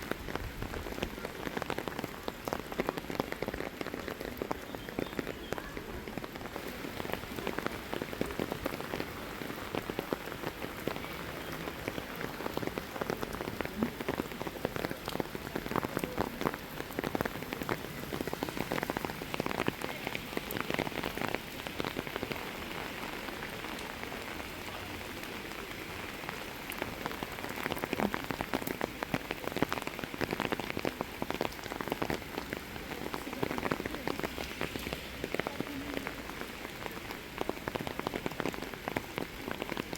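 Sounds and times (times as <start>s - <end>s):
patter of close raindrops: 0.0s - 39.9s
steady rain falling: 0.0s - 39.9s.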